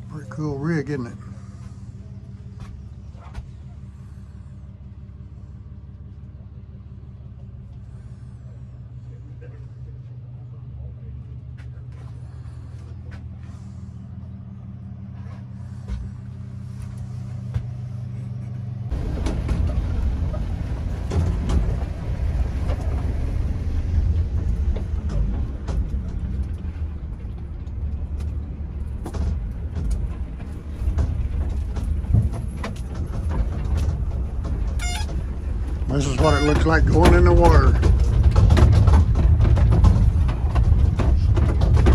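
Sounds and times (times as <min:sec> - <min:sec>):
heavy vehicle engine rumble: 0:00.0 - 0:41.9
trailer and hull rattling: 0:00.0 - 0:41.9.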